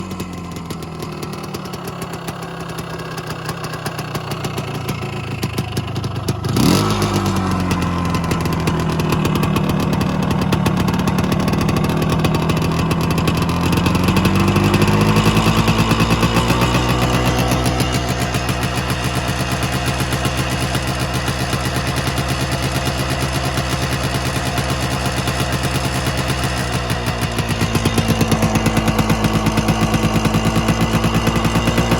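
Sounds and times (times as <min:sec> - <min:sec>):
two-stroke engine idling and revving: 0:00.0 - 0:31.9.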